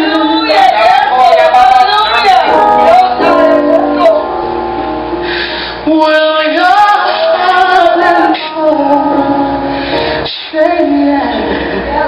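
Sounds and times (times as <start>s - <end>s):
gospel song: 0.0s - 12.0s.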